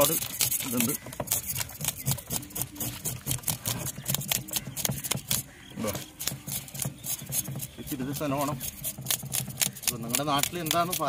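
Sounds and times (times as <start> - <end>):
knife scraping fish scales: 0.0 - 11.0.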